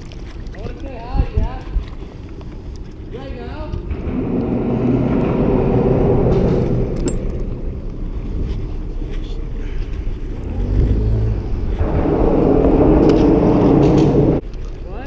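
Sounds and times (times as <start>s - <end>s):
wind on microphone: 0.0s - 14.6s
motorboat engine rumble: 0.0s - 14.8s.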